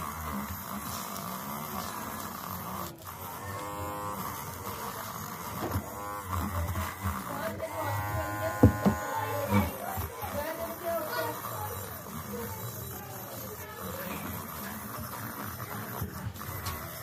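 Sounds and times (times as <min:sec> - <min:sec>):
rotary tool wire brush scrubbing metal: 0:00.0 - 0:17.0.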